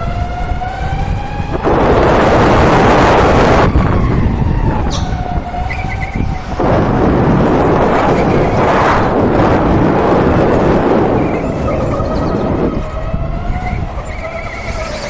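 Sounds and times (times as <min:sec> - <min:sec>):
wind and tyre rumble: 0:00.0 - 0:15.0.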